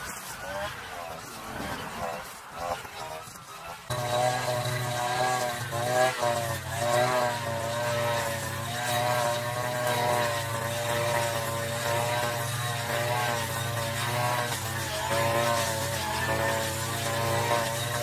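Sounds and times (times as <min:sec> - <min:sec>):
brush cutter cutting grass: 0:00.0 - 0:18.0.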